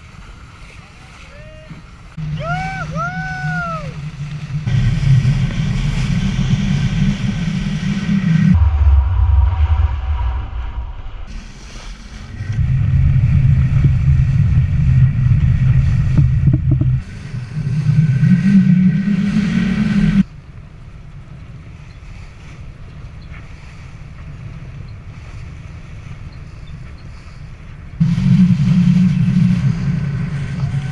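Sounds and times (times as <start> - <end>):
water rushing along a hull: 0.0 - 8.6, 10.7 - 30.9
wind buffeting microphone: 1.8 - 30.9.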